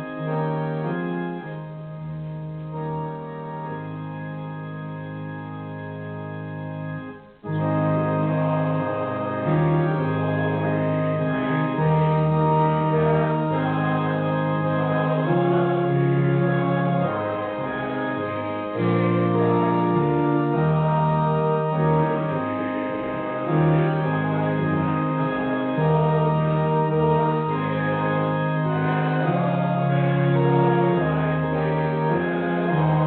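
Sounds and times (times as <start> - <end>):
church organ playing chords: 0.0 - 33.0.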